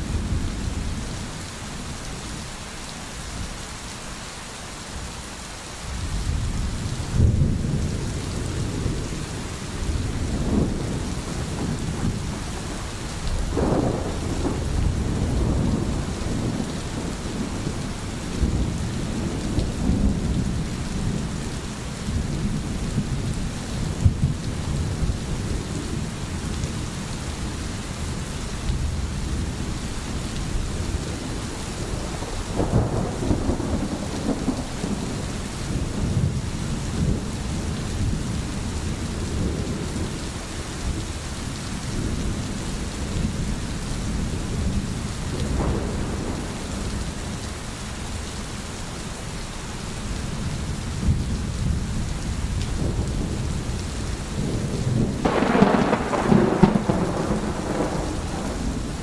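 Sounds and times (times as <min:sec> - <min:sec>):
steady rain: 0:00.0 - 0:59.0
low rumble of thunder: 0:06.0 - 0:47.6, 0:50.3 - 0:59.0.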